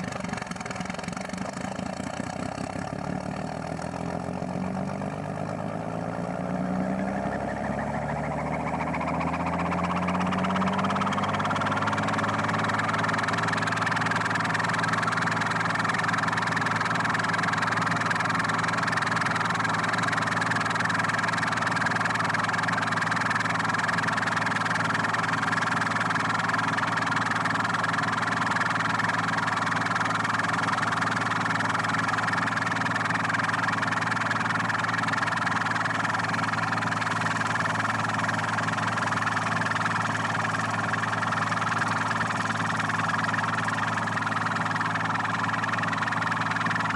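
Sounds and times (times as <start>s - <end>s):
machine engine humming: 0.0s - 46.9s.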